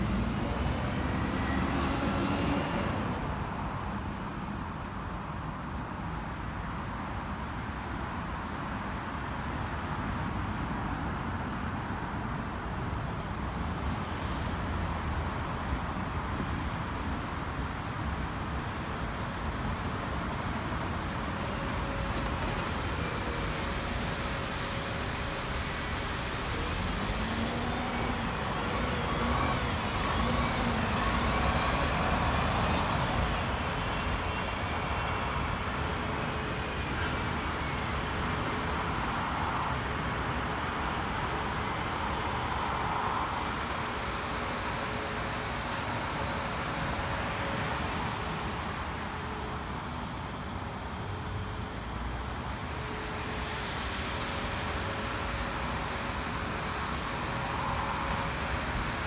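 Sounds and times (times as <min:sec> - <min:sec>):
bus engine: 0:00.0 - 0:59.0
traffic hum: 0:00.0 - 0:59.0.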